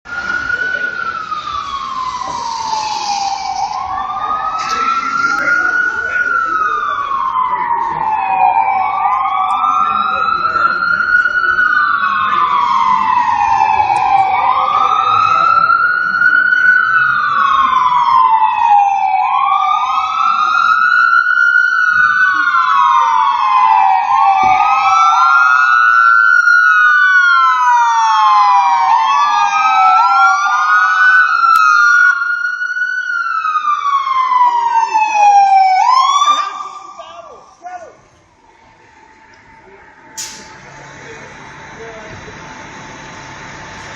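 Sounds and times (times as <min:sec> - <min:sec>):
fire engine sirens wailing: 0:00.0 - 0:43.9.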